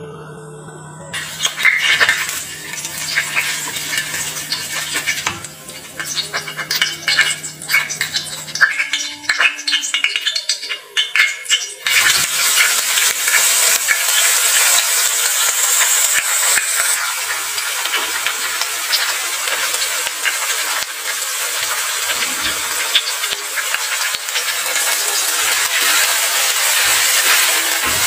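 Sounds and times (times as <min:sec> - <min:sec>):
vegetables sizzling in hot oil: 0:01.2 - 0:28.0.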